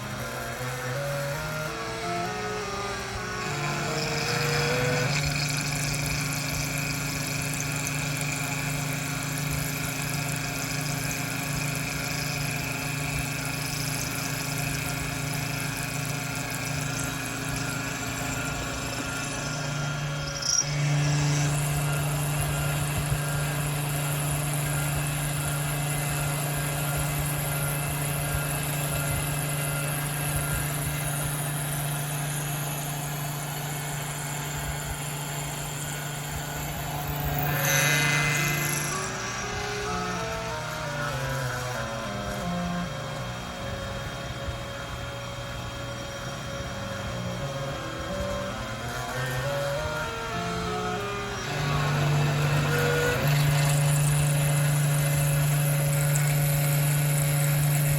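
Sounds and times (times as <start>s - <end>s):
end mill cutting metal: 0.0s - 57.9s
mill spindle humming and whining: 0.0s - 57.9s.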